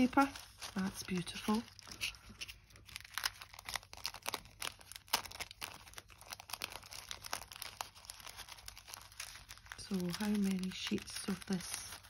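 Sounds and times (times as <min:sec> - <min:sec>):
tissue paper rustling: 0:00.0 - 0:12.0.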